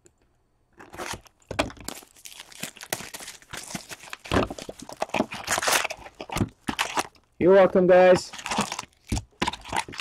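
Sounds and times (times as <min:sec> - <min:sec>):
plastic wrap tearing and crinkling: 0:00.8 - 0:07.2, 0:08.1 - 0:10.0.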